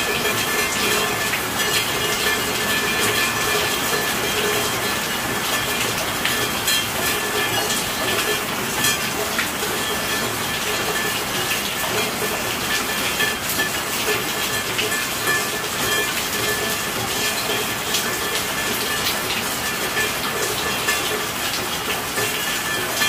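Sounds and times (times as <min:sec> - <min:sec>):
steady rainfall: 0:00.0 - 0:23.0.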